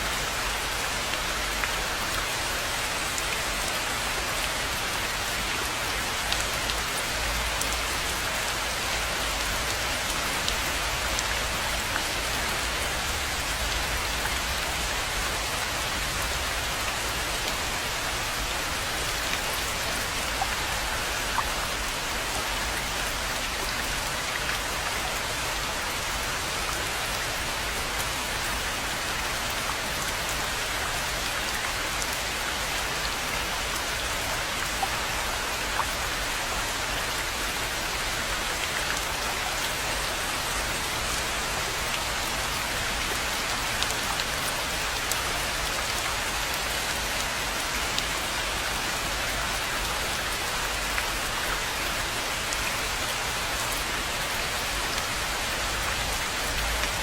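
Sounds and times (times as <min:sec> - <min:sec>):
rain hissing on pond: 0:00.0 - 0:57.0.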